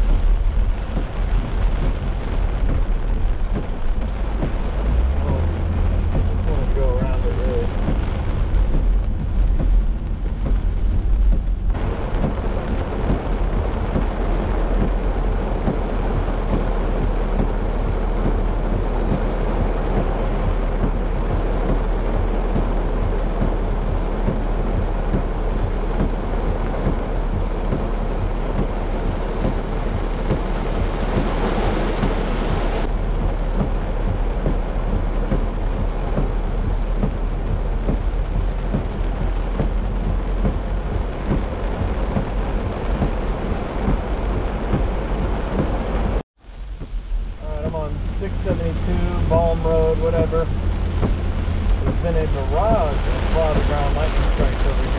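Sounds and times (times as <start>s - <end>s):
heavy rain on car roof: 0.0s - 54.9s.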